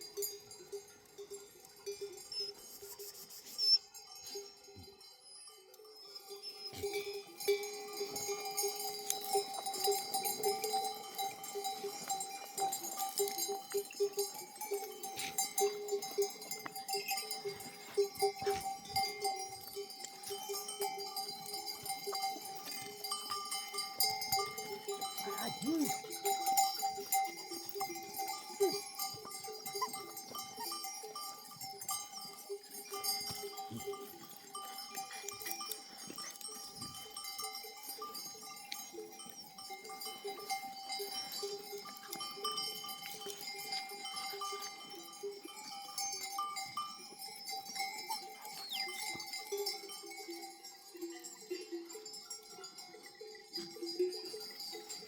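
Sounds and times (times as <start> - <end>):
sheep bells clanking: 0.0 - 55.0.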